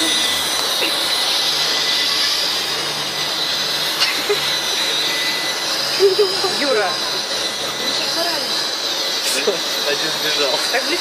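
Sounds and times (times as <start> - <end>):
drone propellers whirring: 0.0 - 11.0.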